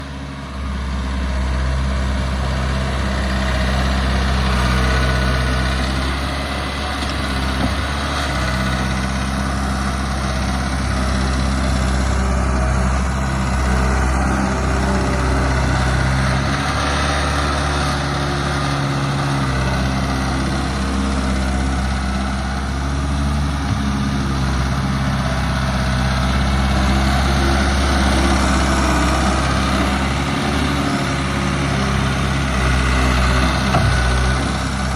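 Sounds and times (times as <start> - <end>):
skid steer diesel engine running: 0.0 - 34.9.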